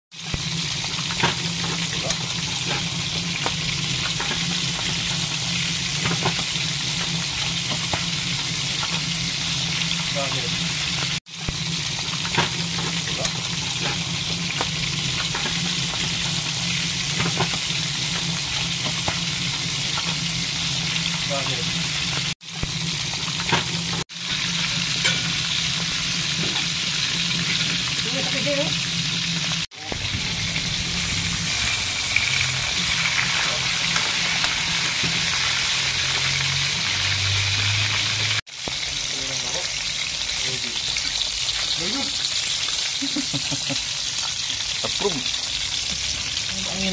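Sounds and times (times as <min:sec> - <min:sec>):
fish frying in hot oil: 0:00.1 - 0:46.9.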